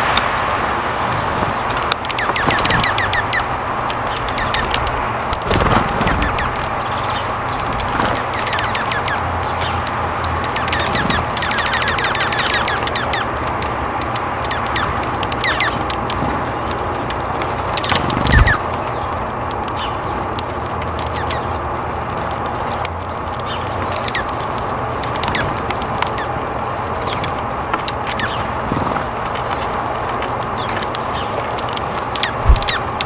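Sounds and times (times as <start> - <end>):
wild birds chirping: 0.0 - 33.0.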